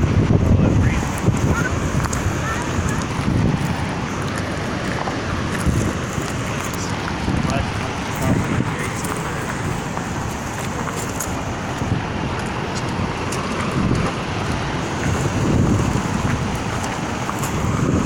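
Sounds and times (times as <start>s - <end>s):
floodwater roaring: 0.0s - 18.0s
wind buffeting microphone: 0.0s - 18.0s.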